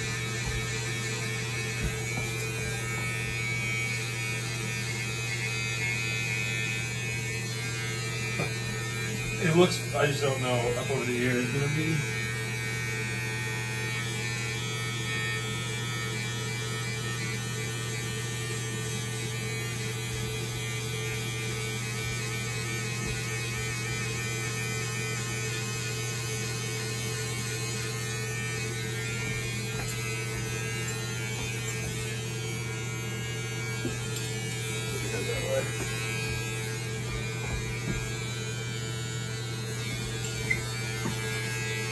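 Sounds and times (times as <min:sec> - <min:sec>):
electric hair clippers humming: 0:00.0 - 0:41.9.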